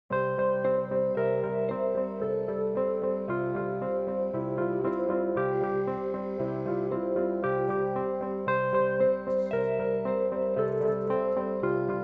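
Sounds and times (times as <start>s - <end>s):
instrumental background music: 0.1s - 12.0s.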